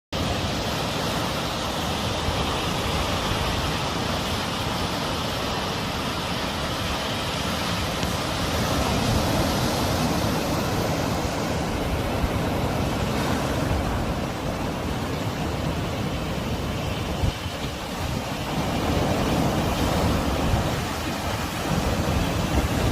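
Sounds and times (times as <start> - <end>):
waves washing in: 0.2 - 22.9.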